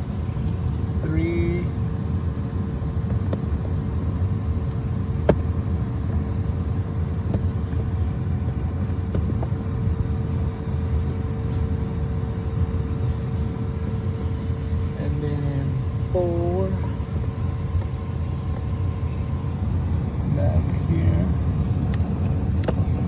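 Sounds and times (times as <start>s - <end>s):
low rumble with hum: 0.0s - 23.0s.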